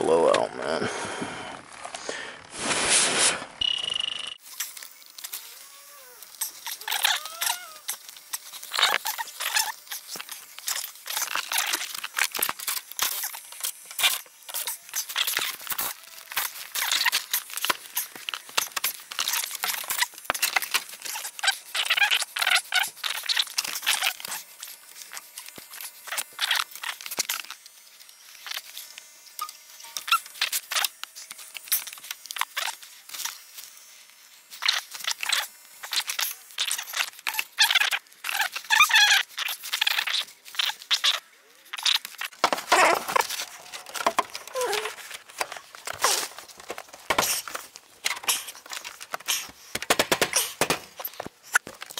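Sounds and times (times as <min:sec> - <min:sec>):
foil insulation crinkling: 0:04.4 - 0:28.9, 0:30.0 - 0:51.9.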